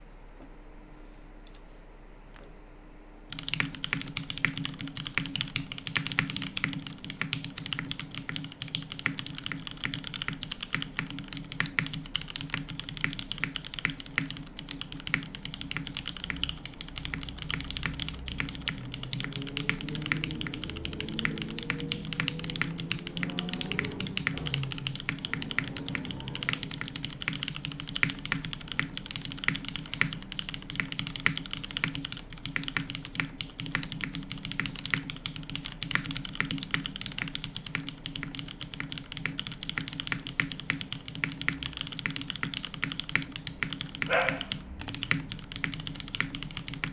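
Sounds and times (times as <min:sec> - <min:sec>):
fast mechanical keyboard typing: 0:03.3 - 0:46.9.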